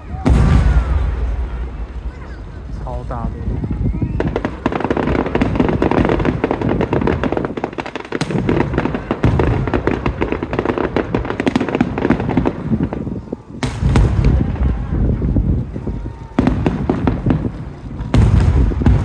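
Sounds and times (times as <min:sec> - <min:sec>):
fireworks booms: 0:00.0 - 0:19.0
fireworks crackling: 0:00.0 - 0:19.0.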